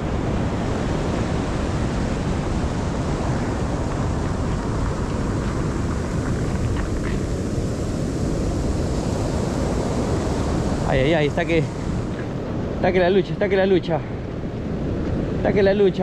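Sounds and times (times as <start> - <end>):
ocean surf rushing: 0.0 - 16.0
wind buffeting microphone: 0.0 - 16.0.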